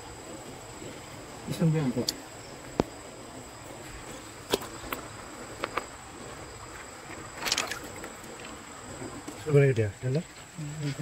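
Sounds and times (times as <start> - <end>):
crickets trilling: 0.0 - 11.0
soft background hiss: 0.0 - 11.0.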